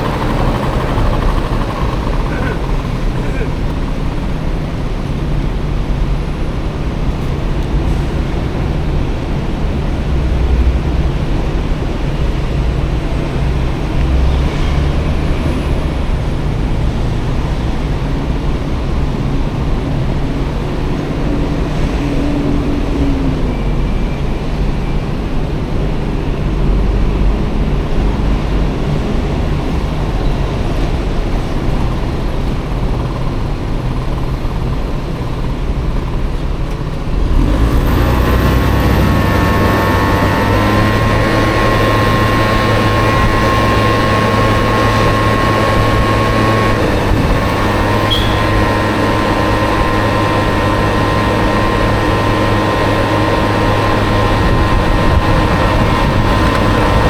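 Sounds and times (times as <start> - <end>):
scooter engine: 0.0 - 57.0
steady engine hum: 0.0 - 57.0
wind and road noise: 0.0 - 57.0.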